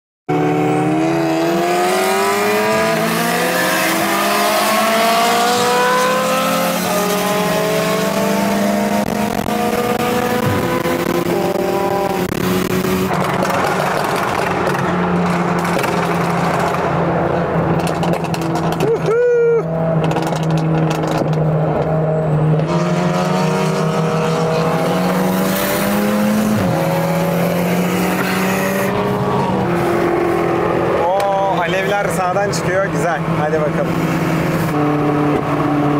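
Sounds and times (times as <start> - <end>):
car engine accelerating: 0.3 - 35.9
wind and tyre noise: 0.3 - 35.9.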